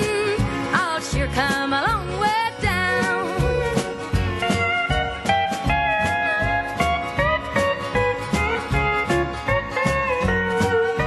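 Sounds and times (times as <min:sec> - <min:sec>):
country band beat: 0:00.0 - 0:11.0
pedal steel guitar sliding notes: 0:00.0 - 0:11.0.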